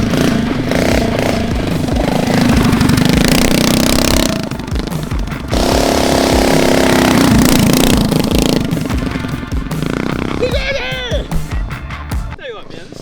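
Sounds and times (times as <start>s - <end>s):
small engine running hard: 0.0s - 10.7s.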